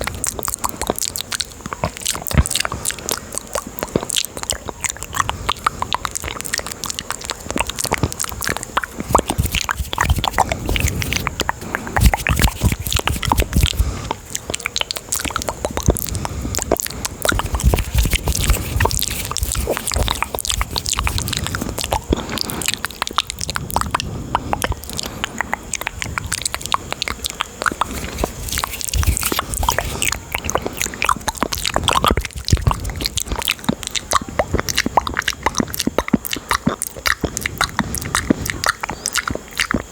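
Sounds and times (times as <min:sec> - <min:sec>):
mouth clicks and smacks: 0:00.0 - 0:39.9.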